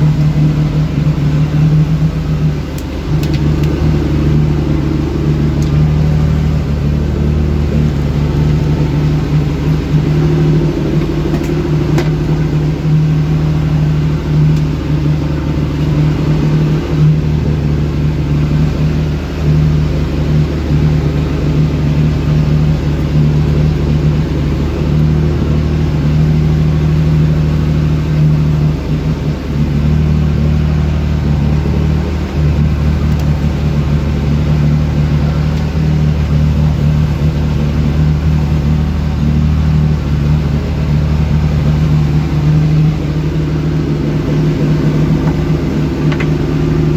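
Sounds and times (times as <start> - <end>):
boat motor droning: 0.0 - 46.9
water rushing: 0.0 - 46.9
wind: 0.0 - 46.9.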